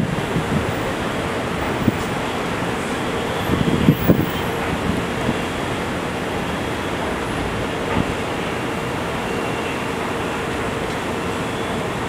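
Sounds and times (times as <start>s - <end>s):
train rail rumble: 0.0s - 12.0s.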